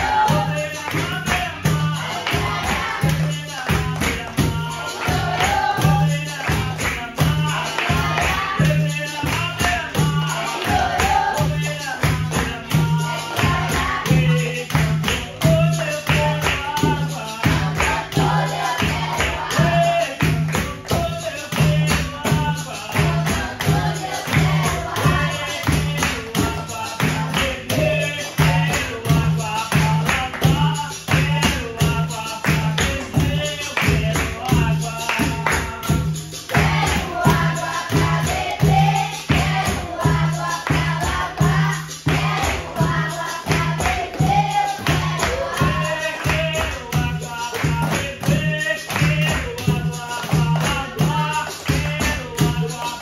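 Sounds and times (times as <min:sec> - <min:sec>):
group singing: 0:00.0 - 0:53.0
hands clapping: 0:00.0 - 0:53.0
pandeiro beat: 0:00.0 - 0:53.0.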